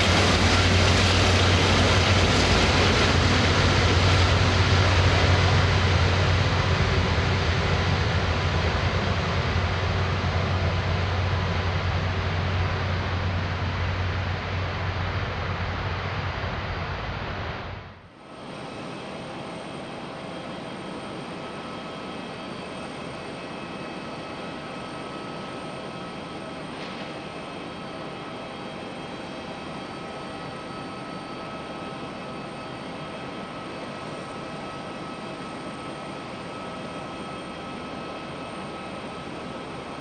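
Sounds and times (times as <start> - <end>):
jet engines hissing and whining: 0.0 - 40.0.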